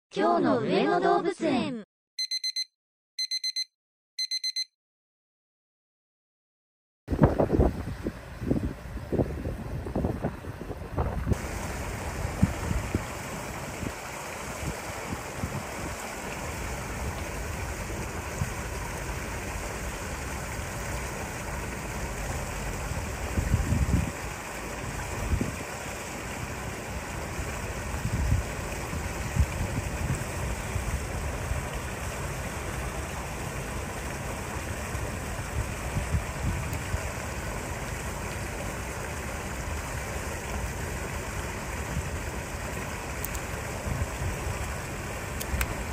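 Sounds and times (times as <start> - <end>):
running water: 8.4 - 45.9.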